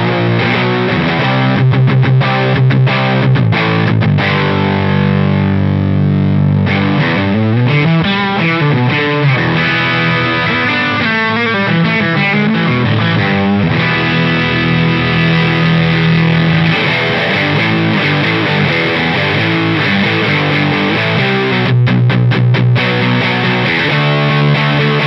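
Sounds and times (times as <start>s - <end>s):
overdriven electric guitar: 0.0s - 25.0s.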